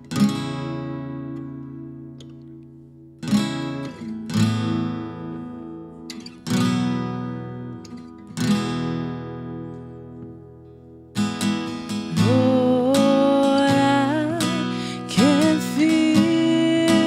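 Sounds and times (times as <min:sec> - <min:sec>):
acoustic guitar strummed slowly: 0:00.0 - 0:17.0.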